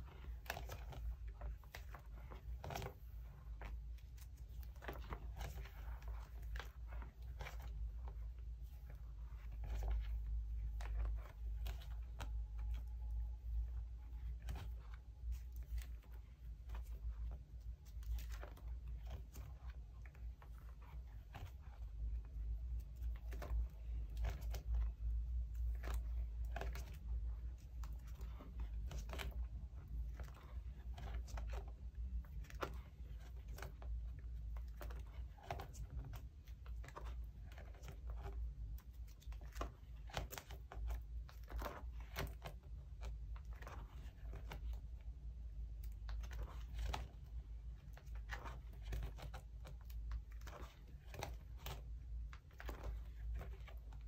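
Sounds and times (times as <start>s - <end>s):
plastic sleeves crinkling: 0.0s - 54.0s.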